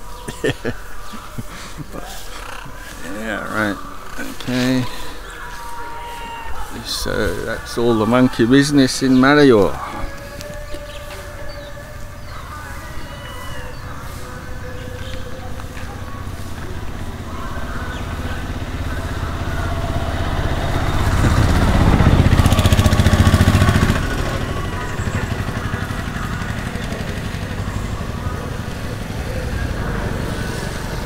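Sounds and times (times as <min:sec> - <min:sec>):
outdoor background noise: 0:00.0 - 0:31.0
vehicle engine passing by: 0:00.8 - 0:31.0.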